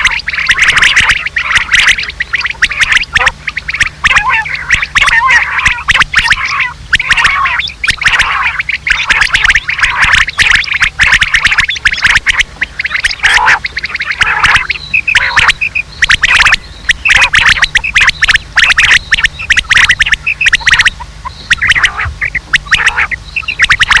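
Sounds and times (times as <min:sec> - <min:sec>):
quail calls and chatter: 0:00.0 - 0:24.0
steady low hum: 0:00.0 - 0:24.0.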